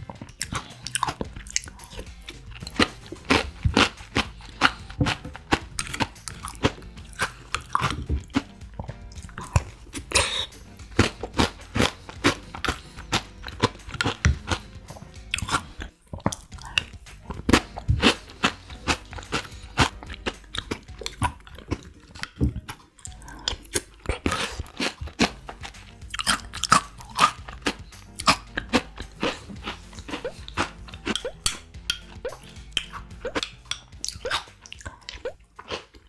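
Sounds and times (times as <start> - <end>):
chewing and crunching: 0.0 - 36.0
soft background music: 0.0 - 36.0
wet mouth noises: 0.0 - 36.0.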